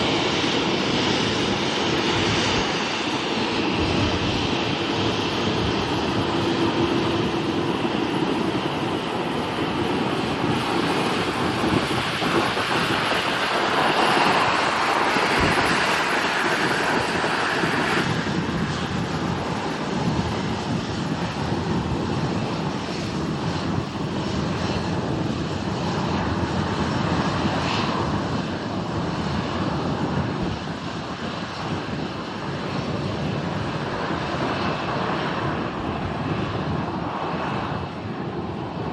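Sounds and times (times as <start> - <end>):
airliner engines running: 0.0 - 38.9.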